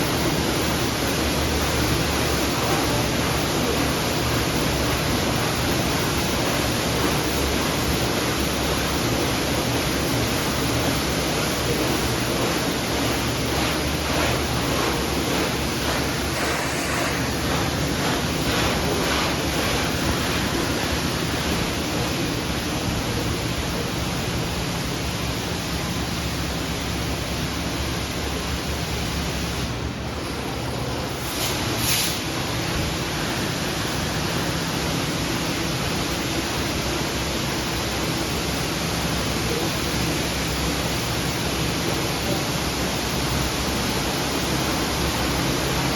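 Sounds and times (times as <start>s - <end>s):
car wash water spraying: 0.0s - 45.9s.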